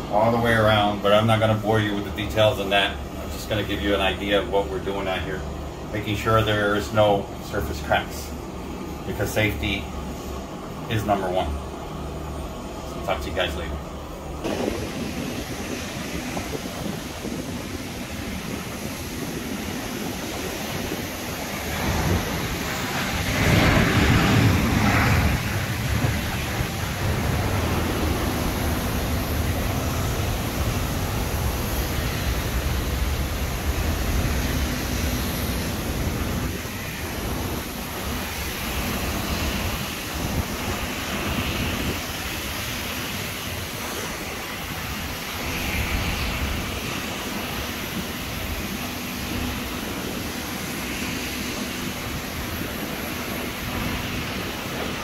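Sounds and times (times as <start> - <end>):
outdoor rushing noise: 0.0 - 55.0.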